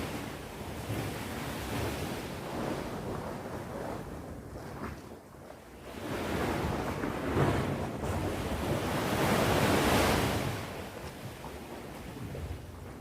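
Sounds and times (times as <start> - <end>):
sea waves washing ashore: 0.0 - 4.5, 5.8 - 13.0.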